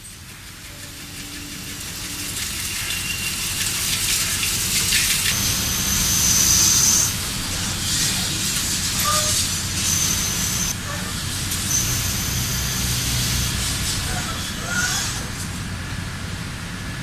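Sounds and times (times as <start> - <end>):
coolant spray rushing: 0.2 - 15.8
high steady whine: 0.7 - 14.6
metal cutting: 0.8 - 15.7.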